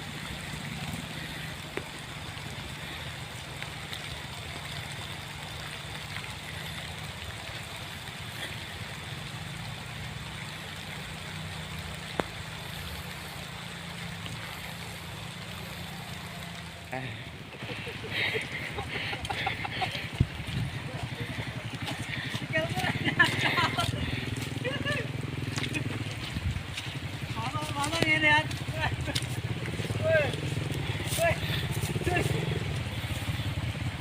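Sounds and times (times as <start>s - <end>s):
constant hiss: 0.0s - 34.0s
engine running steadily: 0.0s - 34.0s.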